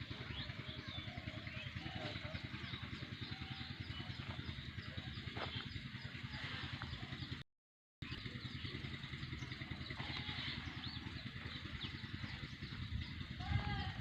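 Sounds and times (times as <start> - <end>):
small engine running: 0.0 - 7.4, 8.0 - 14.0.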